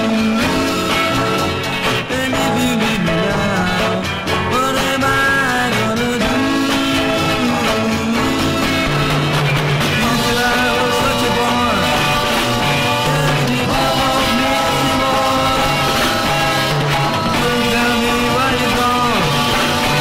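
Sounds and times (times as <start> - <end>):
garage rock band with singing: 0.0 - 20.0.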